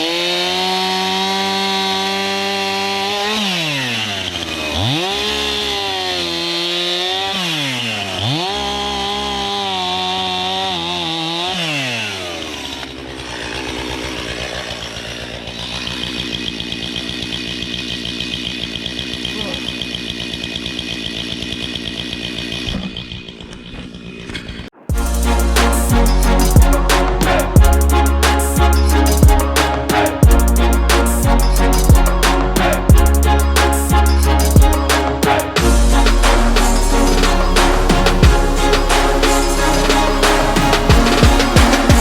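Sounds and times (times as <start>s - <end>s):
chainsaw engine revving: 0.0s - 42.0s.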